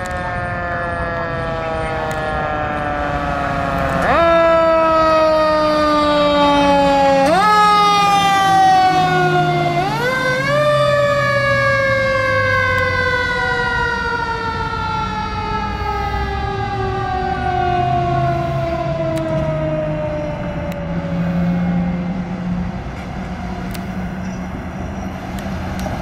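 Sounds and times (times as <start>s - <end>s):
fire engine siren wailing: 0.0s - 26.0s.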